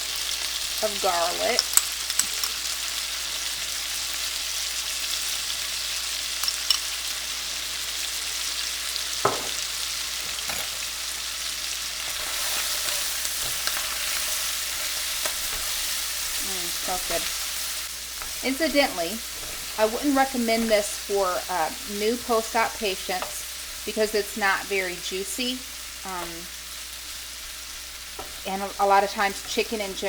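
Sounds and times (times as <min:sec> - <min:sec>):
chicken sizzling in a pan: 0:00.0 - 0:30.0.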